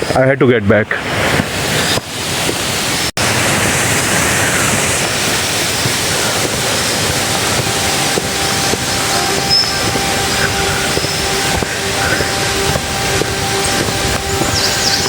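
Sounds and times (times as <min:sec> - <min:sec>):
stream water rushing: 0:01.0 - 0:15.0.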